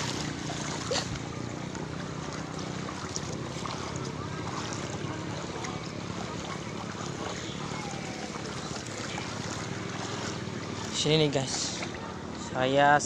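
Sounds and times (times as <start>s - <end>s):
faint water splashes: 0.0s - 13.0s
floodwater rushing: 0.0s - 13.0s.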